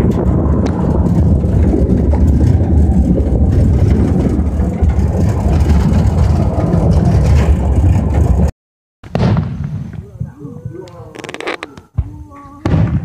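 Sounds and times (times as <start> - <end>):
wind and road noise rumble: 0.0 - 8.5, 9.1 - 13.0.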